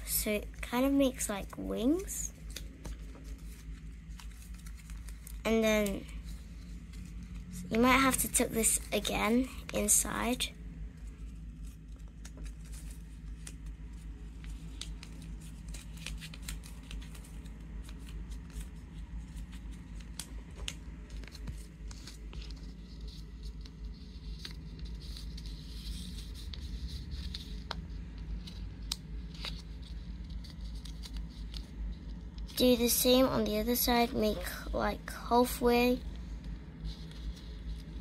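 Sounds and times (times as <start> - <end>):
steady low hum: 0.0 - 38.0
paper crackling and rustling: 0.2 - 34.7, 36.0 - 38.0.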